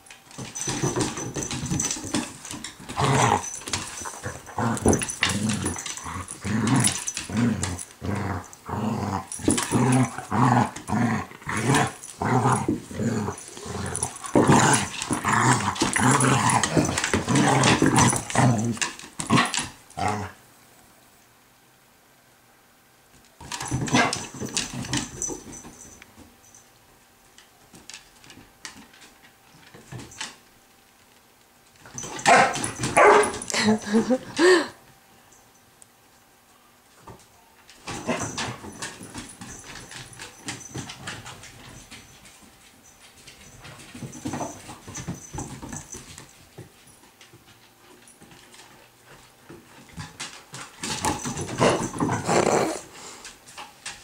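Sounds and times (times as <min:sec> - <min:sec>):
dogs scuffling and playing: 0:00.0 - 0:20.4, 0:23.1 - 0:34.6, 0:36.9 - 0:54.0.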